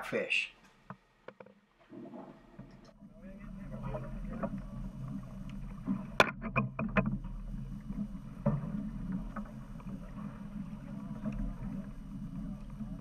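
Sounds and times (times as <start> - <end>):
boat engine humming: 2.4 - 13.0.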